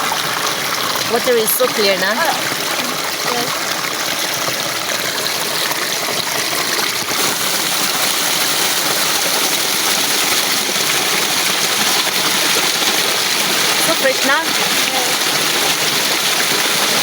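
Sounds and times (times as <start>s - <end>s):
stream flowing over stones: 0.0s - 17.0s.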